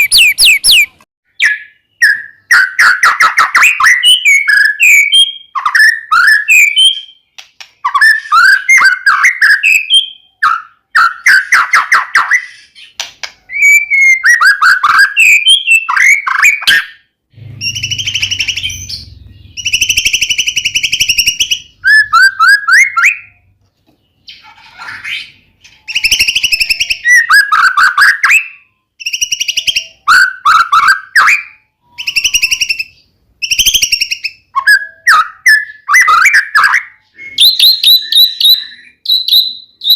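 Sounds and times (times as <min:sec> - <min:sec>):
bird singing whistled phrases: 0:00.0 - 0:23.5, 0:25.0 - 0:39.9.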